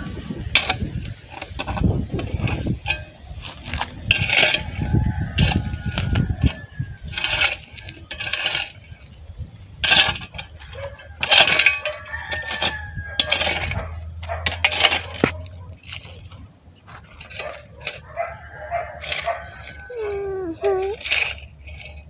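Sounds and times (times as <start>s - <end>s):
shovel scraping soil: 0.6s - 4.8s, 5.4s - 22.0s.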